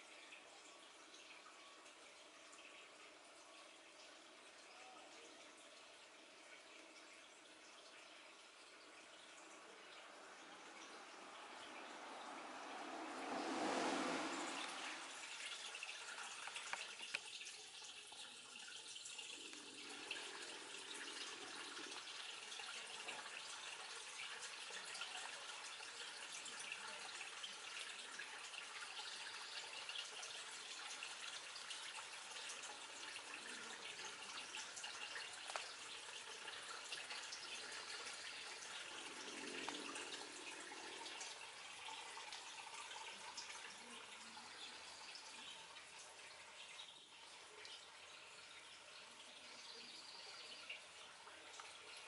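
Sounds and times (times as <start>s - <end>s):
small water drips: 0.0s - 52.0s
water trickling: 0.0s - 52.0s.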